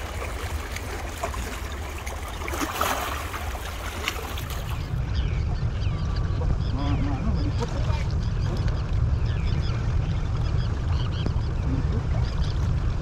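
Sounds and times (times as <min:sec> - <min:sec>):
moving water: 0:00.0 - 0:13.0
wind rumble on microphone: 0:00.0 - 0:13.0
bird calls: 0:01.4 - 0:13.0.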